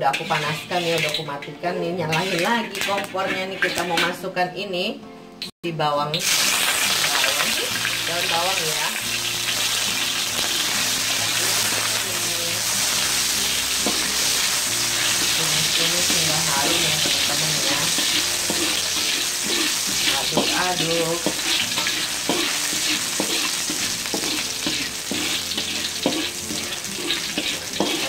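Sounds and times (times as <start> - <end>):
onions sizzling in hot oil: 0.0 - 1.4, 2.0 - 4.1, 6.1 - 28.0
spatula scraping a wok: 0.0 - 4.3, 8.5 - 28.0.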